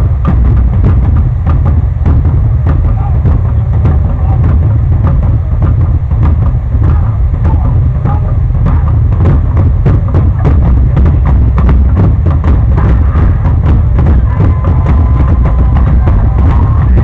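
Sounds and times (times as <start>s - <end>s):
drum and wood-block strikes: 0.0s - 17.0s
heavy low rumble: 0.0s - 17.0s.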